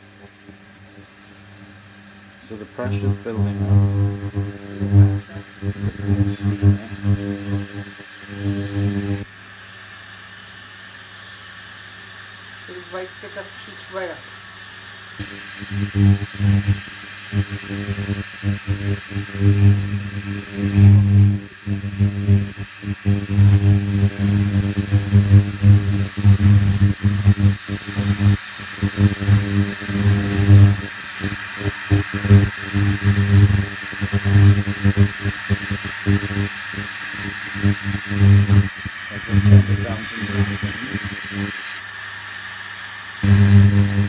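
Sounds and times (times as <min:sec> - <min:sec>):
induction hob buzzing hum: 0:00.0 - 0:44.0
thin high hiss: 0:00.0 - 0:44.0.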